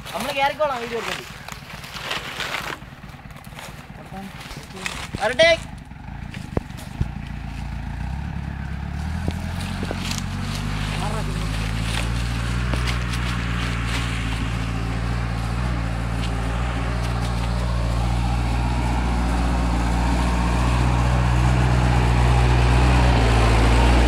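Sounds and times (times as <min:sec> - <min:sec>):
jeep engine running: 0:00.0 - 0:24.0.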